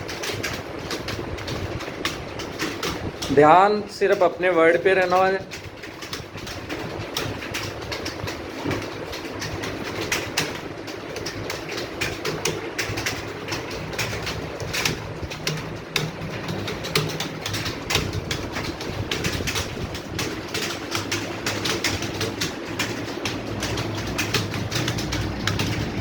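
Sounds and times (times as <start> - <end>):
keyboards clattering: 0.0 - 26.0
steady low hum: 0.0 - 26.0.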